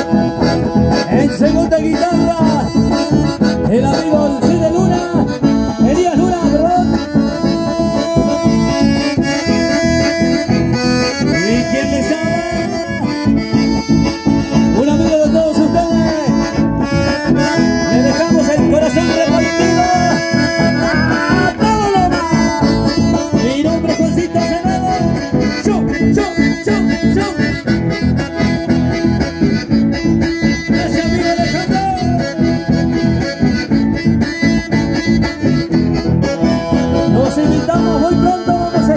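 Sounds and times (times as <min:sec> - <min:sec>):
accordion dance music: 0:00.0 - 0:38.9.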